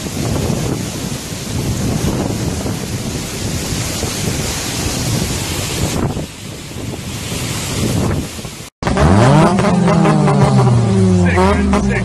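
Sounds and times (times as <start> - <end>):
wind buffeting microphone: 0.0 - 11.2
driving rain: 0.0 - 12.0.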